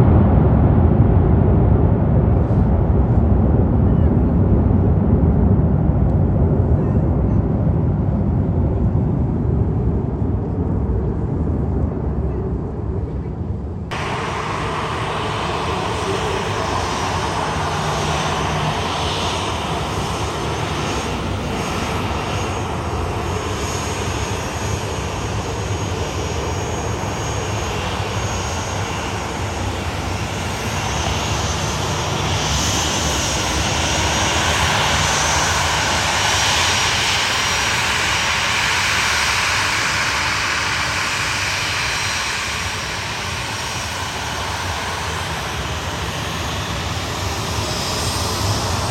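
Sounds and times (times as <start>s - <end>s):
airliner engines roaring: 0.0s - 48.9s.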